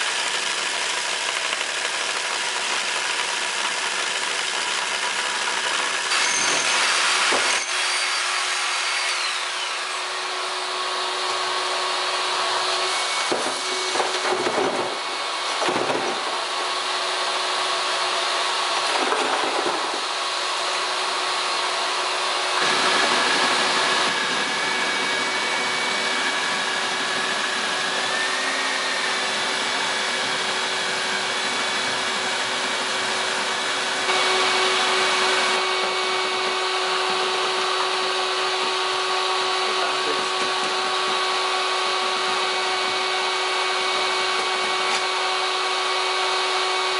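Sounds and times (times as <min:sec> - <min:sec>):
core drill boring into wall: 0:00.0 - 0:46.9
vacuum dust extractor running: 0:00.0 - 0:46.9.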